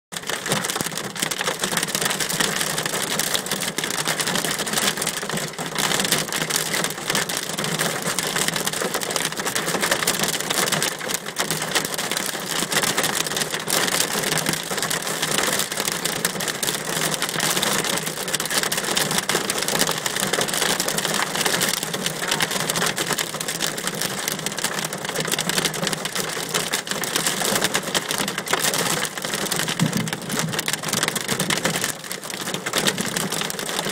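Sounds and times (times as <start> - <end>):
hail and heavy rain pelting: 0.2 - 33.9.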